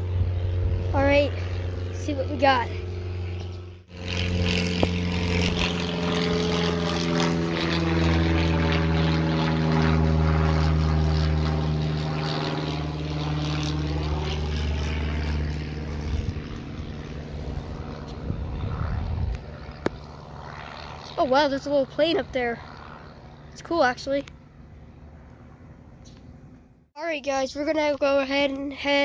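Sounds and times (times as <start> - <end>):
propeller plane engine drone: 0.0 - 29.0.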